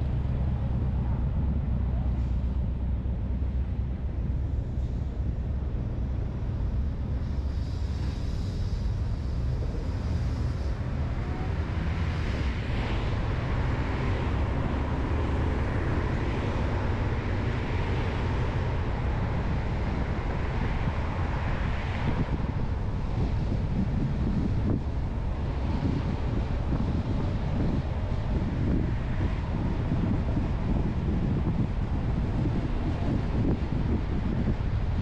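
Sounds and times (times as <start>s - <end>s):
passing traffic: 0.0s - 35.0s
tyre and engine rumble: 0.0s - 35.0s
wind hiss: 0.0s - 35.0s.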